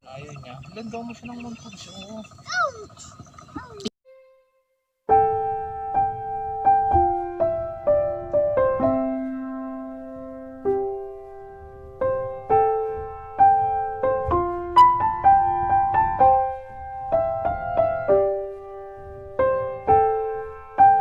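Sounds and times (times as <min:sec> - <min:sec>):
piano-like melody: 0:04.1 - 0:21.0.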